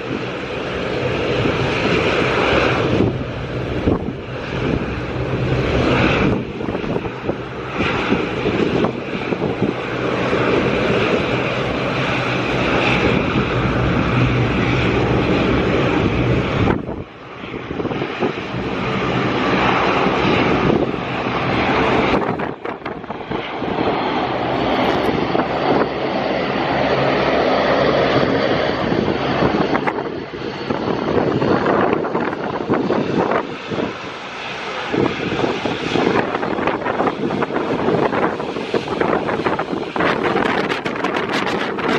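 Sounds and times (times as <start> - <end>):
airliner engines roaring: 0.0 - 41.9.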